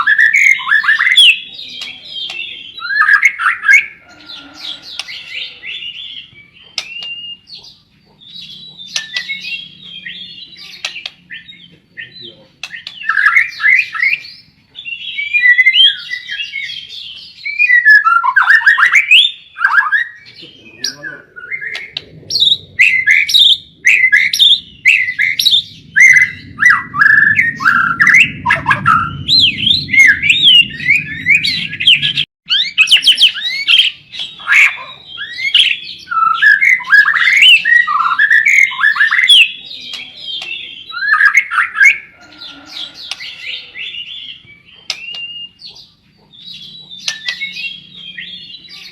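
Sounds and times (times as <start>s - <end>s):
bird singing whistles and chatters: 0.0s - 48.9s.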